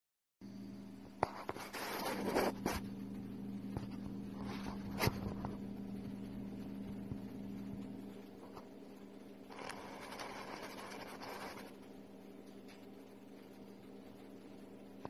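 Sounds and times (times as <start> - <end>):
steady low hum: 0.4 - 15.0.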